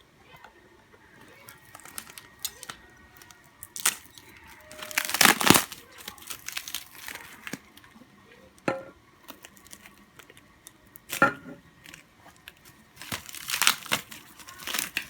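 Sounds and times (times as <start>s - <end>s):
packaging crinkling: 1.2s - 8.0s, 9.2s - 15.0s.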